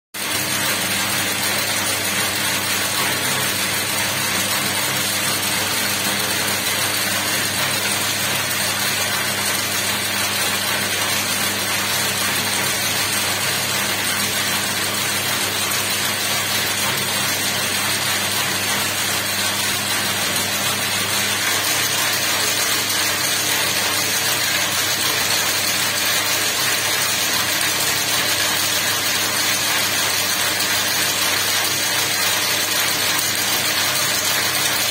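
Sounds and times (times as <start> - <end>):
braiding machine running: 0.2 - 34.9.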